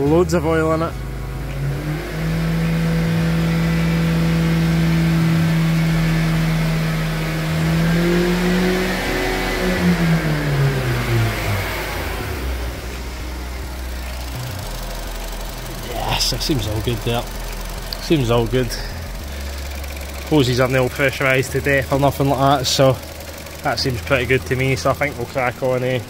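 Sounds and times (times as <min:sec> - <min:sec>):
car engine fast idle: 0:00.0 - 0:26.0.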